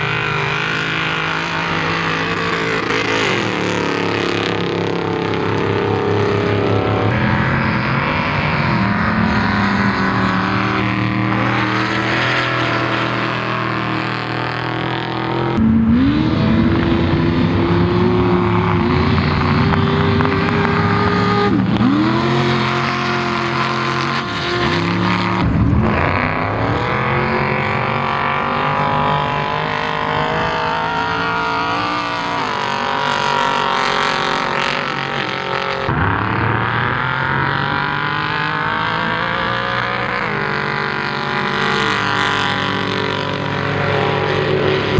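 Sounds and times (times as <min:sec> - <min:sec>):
race vehicle engines revving: 0:00.0 - 0:44.9.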